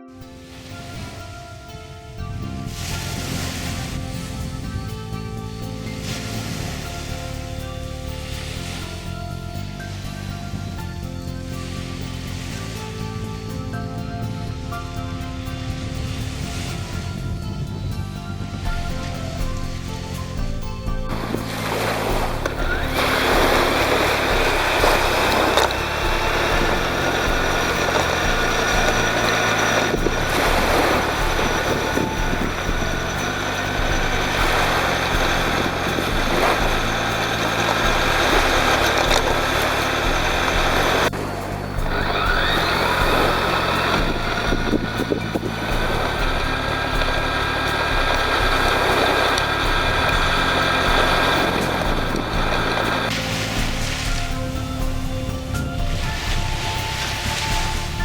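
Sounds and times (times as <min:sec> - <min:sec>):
low hum: 0:00.0 - 0:58.0
small electric motor whining: 0:00.0 - 0:58.0
surf rushing: 0:00.0 - 0:58.0
wind: 0:00.0 - 0:58.0.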